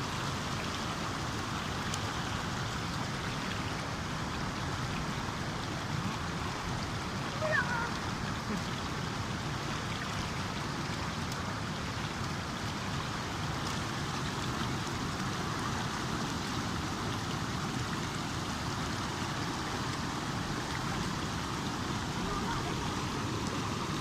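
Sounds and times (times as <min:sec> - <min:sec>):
stream water gurgling: 0:00.0 - 0:24.0.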